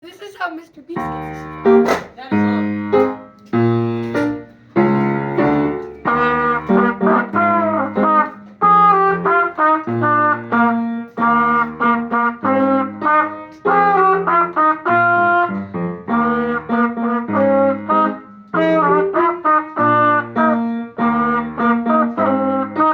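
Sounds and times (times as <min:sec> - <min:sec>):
trumpet melody: 0:00.9 - 0:22.9.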